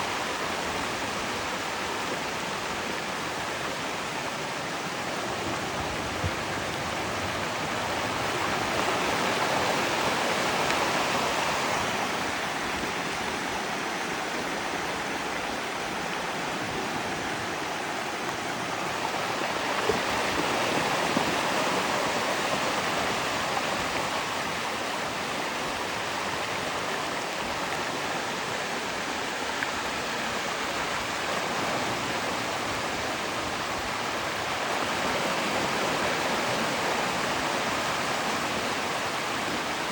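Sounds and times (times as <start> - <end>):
water rushing through channel: 0.0 - 39.9.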